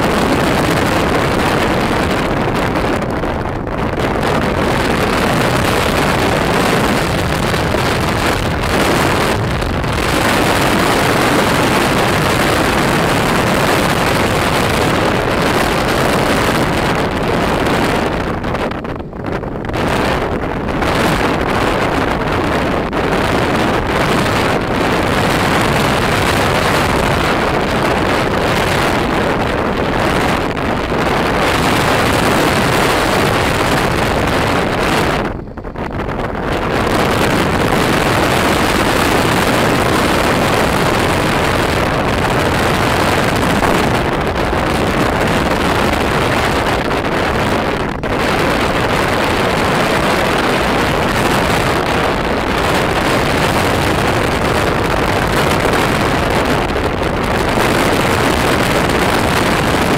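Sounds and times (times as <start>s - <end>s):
motorbike engine and road noise: 0.0s - 59.9s
wind rushing over microphone: 0.0s - 59.9s.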